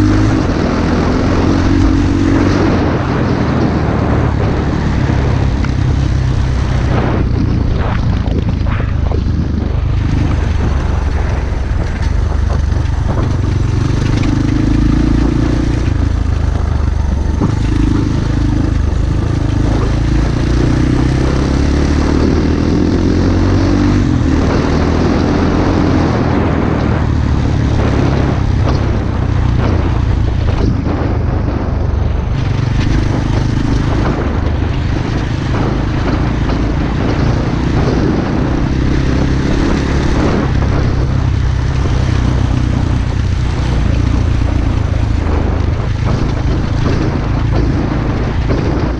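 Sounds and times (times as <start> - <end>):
pit bike engine running: 0.0 - 48.9.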